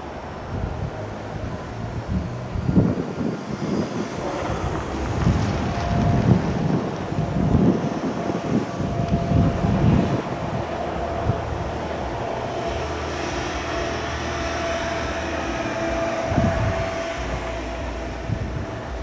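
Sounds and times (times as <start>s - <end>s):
electric train rumbling: 0.0s - 19.0s
faint steady whine: 0.0s - 19.0s.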